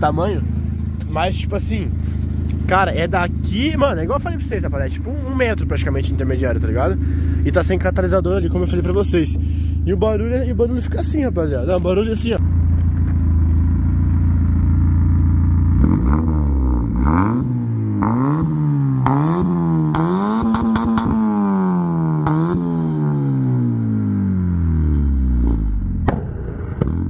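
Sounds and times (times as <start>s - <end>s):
car exhaust idling and revving: 0.0s - 27.0s.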